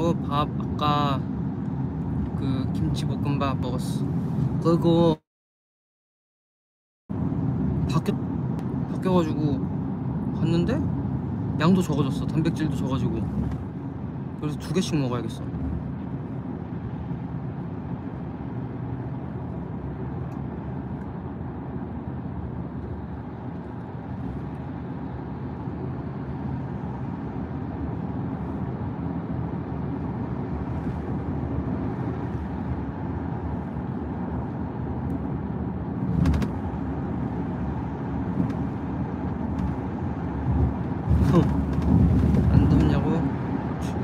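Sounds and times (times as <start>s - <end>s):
road and engine rumble in car: 0.0s - 5.3s, 7.1s - 44.0s.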